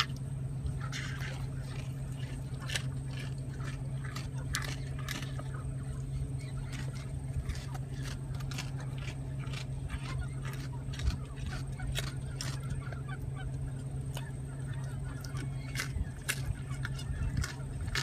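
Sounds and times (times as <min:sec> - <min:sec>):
alpaca chewing crunchily: 0:00.0 - 0:18.0
steady low hum: 0:00.0 - 0:18.0.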